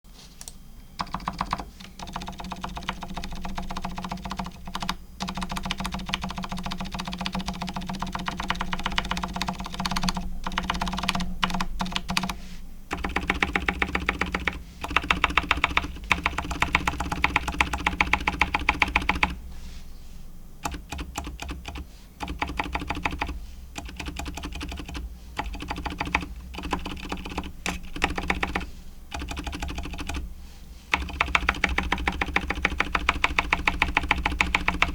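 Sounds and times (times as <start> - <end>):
typing on keyboard: 0.4 - 19.4, 20.6 - 30.3, 30.9 - 34.9.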